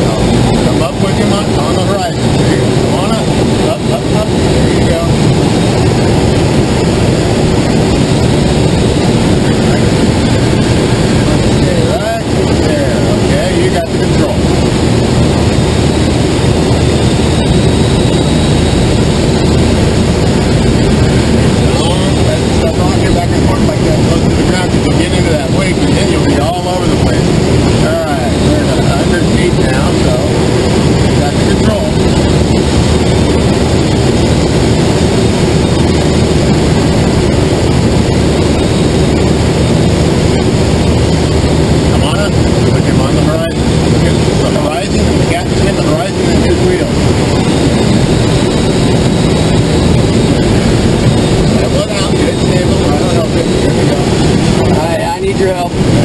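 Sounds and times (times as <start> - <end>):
rush of air and airframe noise: 0.0 - 56.0
towplane engine drone: 0.0 - 56.0.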